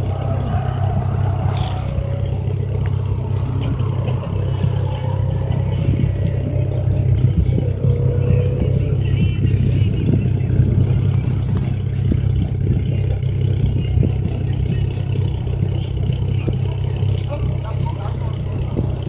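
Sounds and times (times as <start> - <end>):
rally car engine droning: 0.0 - 19.0.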